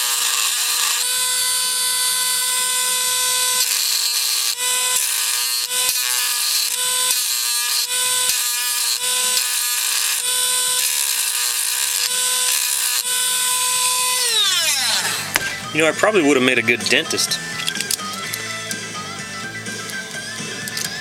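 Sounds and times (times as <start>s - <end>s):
rotary tool grinding metal: 0.0s - 21.0s.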